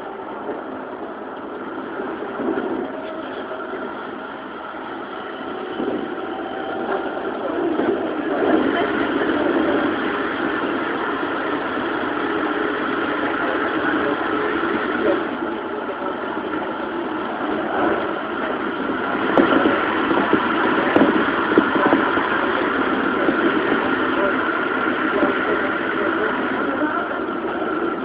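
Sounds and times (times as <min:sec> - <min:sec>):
faint steady whine: 0:00.0 - 0:28.0
train wheels rumbling on rail: 0:00.0 - 0:28.0.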